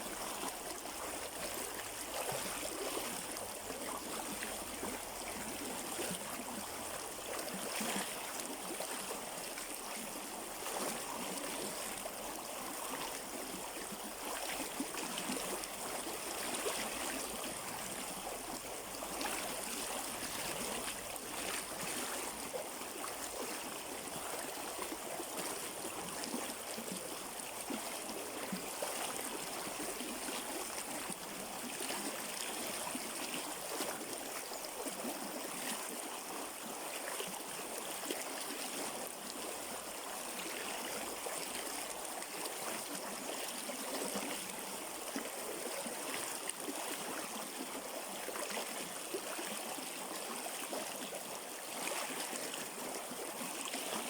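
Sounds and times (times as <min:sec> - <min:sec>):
river water flowing: 0:00.0 - 0:54.0
water gurgles and splashes: 0:00.0 - 0:54.0.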